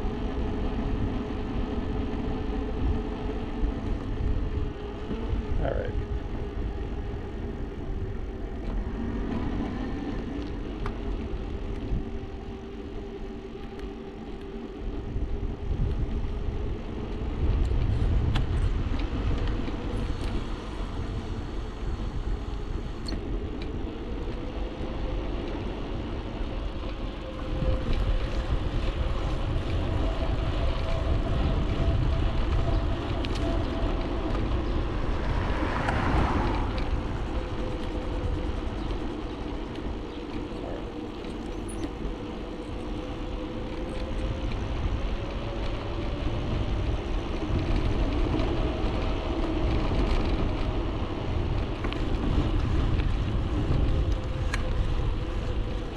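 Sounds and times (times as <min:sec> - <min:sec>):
wind rumble on microphone: 0:00.0 - 0:55.9.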